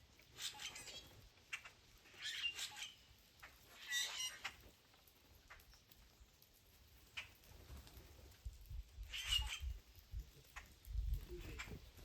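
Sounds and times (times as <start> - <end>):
blackbirds chattering calls: 0.0 - 7.6, 9.0 - 12.0.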